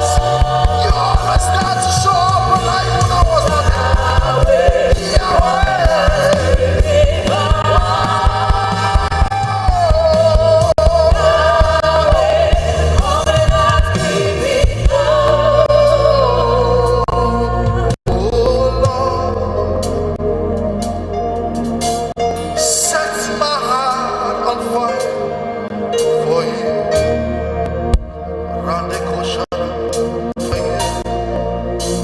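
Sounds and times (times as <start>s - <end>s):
gospel singing with band: 0.0s - 27.6s.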